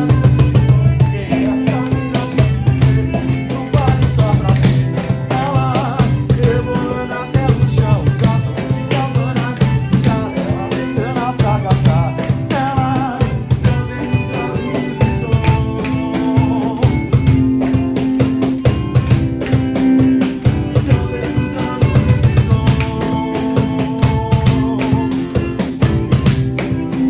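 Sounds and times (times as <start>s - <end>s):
drum kit beat: 0.0s - 27.0s
guitar: 0.0s - 27.0s.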